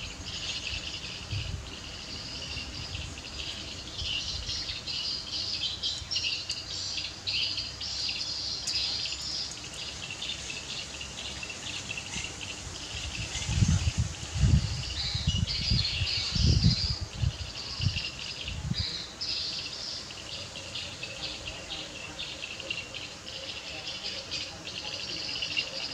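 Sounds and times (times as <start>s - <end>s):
birds chirping: 0.0s - 25.9s
insects chirping: 0.0s - 25.9s.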